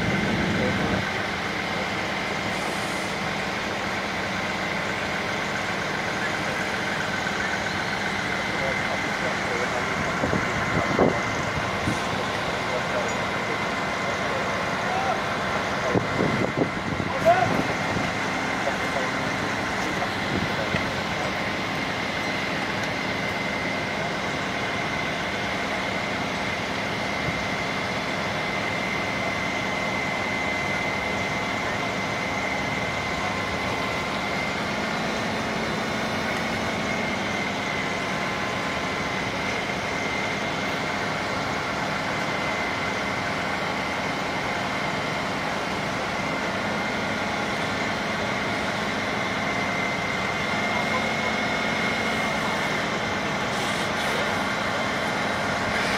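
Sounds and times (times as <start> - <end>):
fire engine pump running: 0.0 - 55.9.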